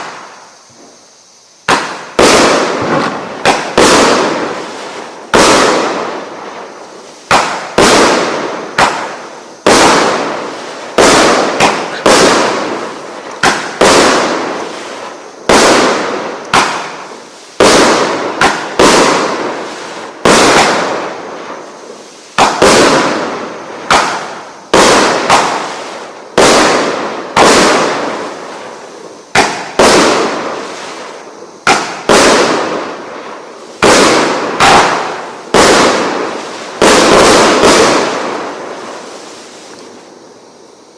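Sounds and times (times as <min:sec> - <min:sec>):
fireworks bangs: 0:00.0 - 0:40.8.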